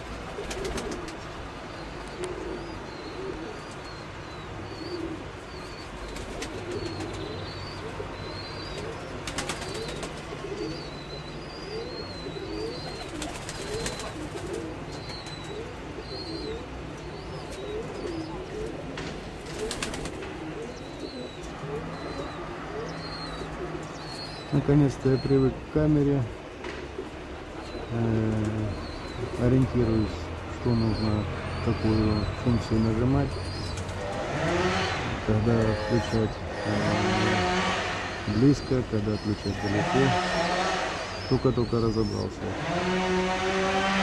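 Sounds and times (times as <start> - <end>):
pigeons cooing: 0.0 - 44.0.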